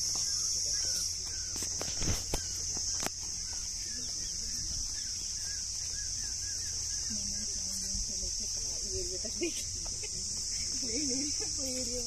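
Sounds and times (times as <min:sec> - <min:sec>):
footsteps through dry grass: 0:00.0 - 0:12.0
high-pitched insect drone: 0:00.0 - 0:12.0.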